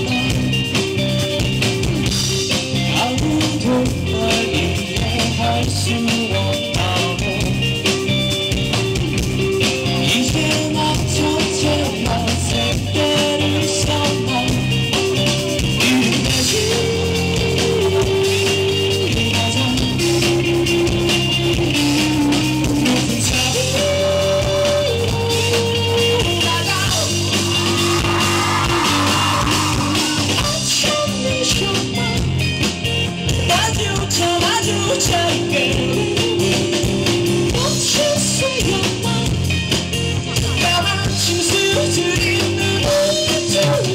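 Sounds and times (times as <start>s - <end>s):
electric guitar: 0.0s - 43.9s
live rock band playing: 0.0s - 43.9s
man singing: 2.5s - 7.9s, 9.9s - 32.6s, 33.4s - 39.7s, 40.3s - 43.9s.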